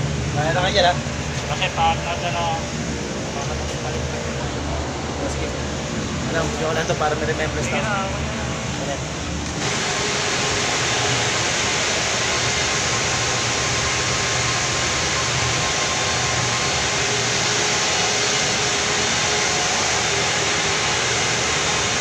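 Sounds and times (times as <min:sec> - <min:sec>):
air handling units running: 0:00.0 - 0:22.0.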